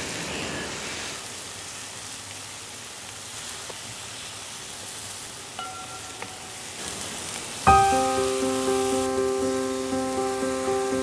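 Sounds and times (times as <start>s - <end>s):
shallots sizzling in hot oil: 0.0s - 11.0s.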